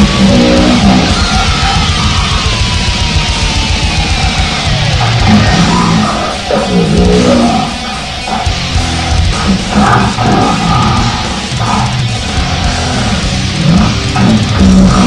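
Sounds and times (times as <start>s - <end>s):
heavy metal music: 0.0s - 15.0s.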